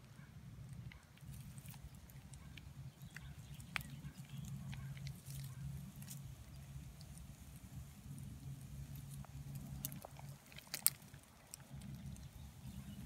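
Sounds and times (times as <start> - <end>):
low steady hum: 0.0 - 13.0
dry leaves crackling: 0.8 - 13.0.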